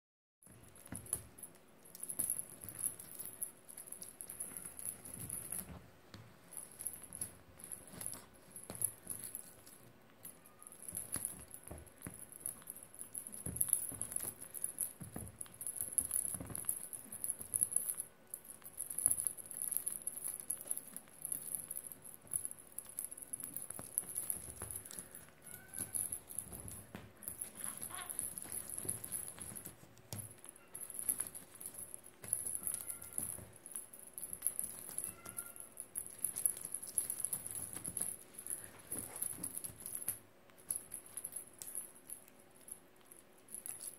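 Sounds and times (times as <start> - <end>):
toy rustling and rattling: 0.5 - 43.9.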